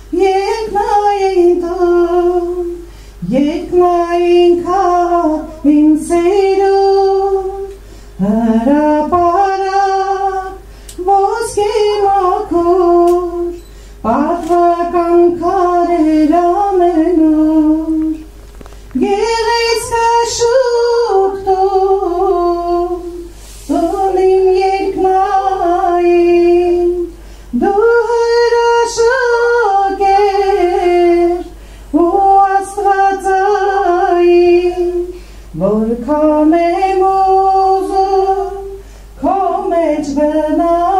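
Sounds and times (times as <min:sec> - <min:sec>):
woman singing unaccompanied: 0:00.0 - 0:40.9.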